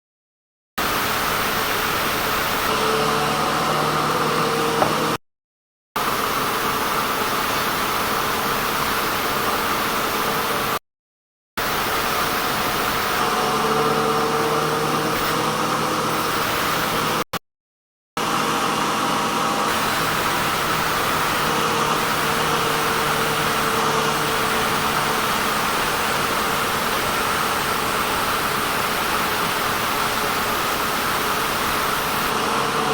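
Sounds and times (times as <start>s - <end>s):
sawmill machine running: 0.8s - 5.2s, 6.0s - 10.8s, 11.6s - 17.3s, 18.2s - 32.9s.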